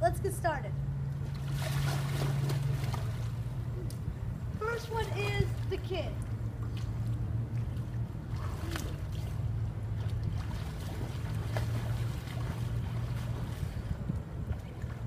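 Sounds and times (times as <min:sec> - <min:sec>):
low steady rumble: 0:00.0 - 0:15.0
swimmer splashing: 0:01.0 - 0:15.0.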